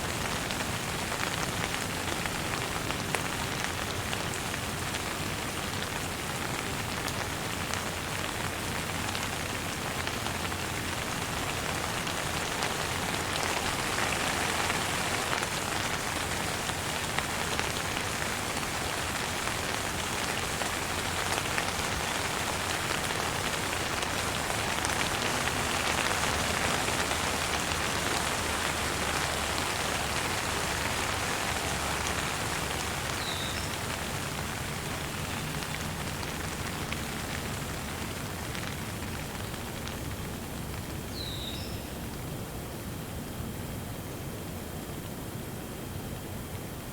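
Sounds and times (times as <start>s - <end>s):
rain patter on a surface: 0.0s - 42.3s.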